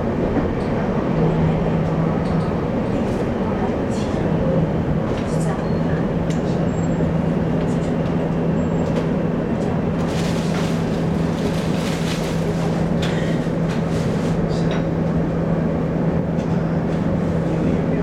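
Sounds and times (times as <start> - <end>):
constant low hum: 0.0 - 18.0
train wheels rumbling on track: 0.0 - 18.0.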